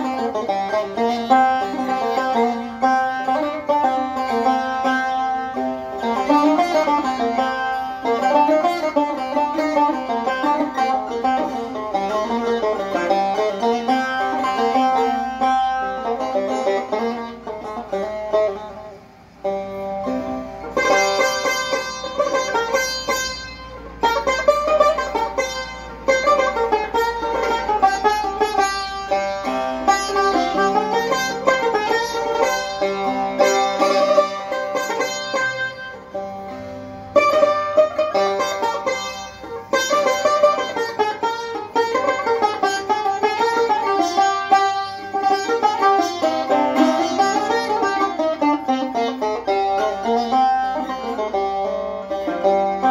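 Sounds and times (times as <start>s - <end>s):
plucked lute melody: 0.0s - 52.9s.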